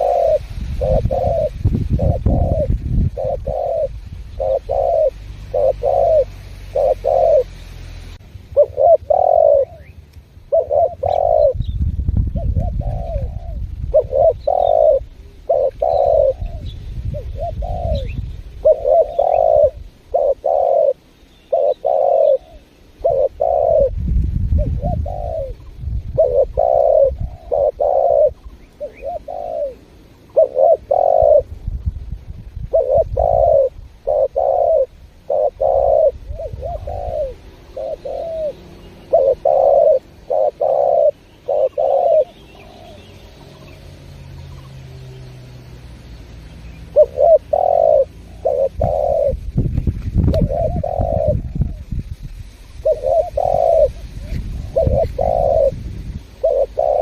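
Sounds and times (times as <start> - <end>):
dove cooing: 0.0 - 31.6, 32.6 - 45.0, 46.7 - 52.0, 52.6 - 57.0.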